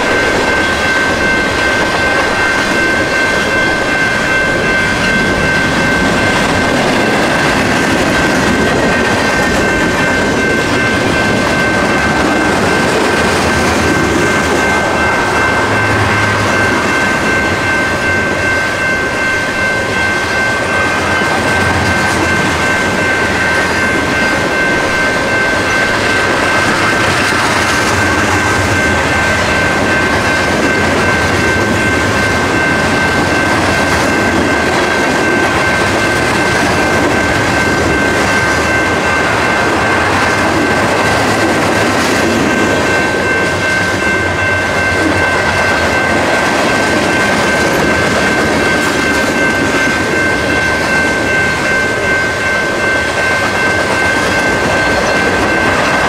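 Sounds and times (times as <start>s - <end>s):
freight train cars rolling: 0.0s - 56.0s
high-pitched ringing: 0.0s - 56.0s.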